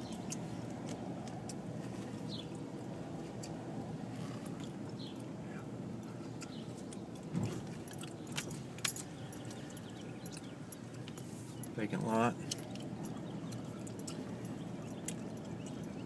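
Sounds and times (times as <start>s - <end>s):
car rolling slowly: 0.0s - 16.0s
light metallic clicks and jingles: 0.0s - 16.0s.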